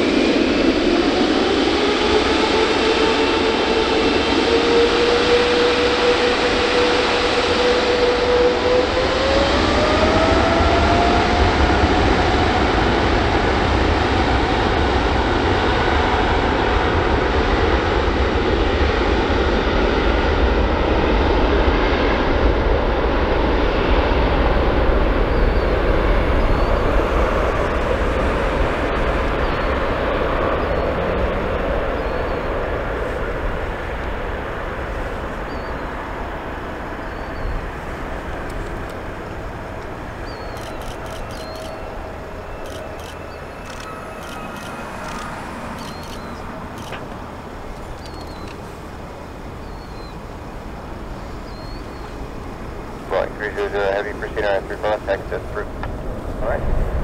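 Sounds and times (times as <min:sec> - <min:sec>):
jet engines at takeoff power: 0:00.0 - 0:57.0.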